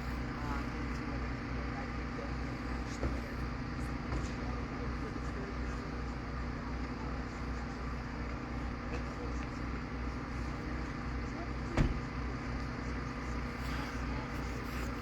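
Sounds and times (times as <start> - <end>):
faint background voices: 0.0 - 15.0
low mechanical hum: 0.0 - 15.0.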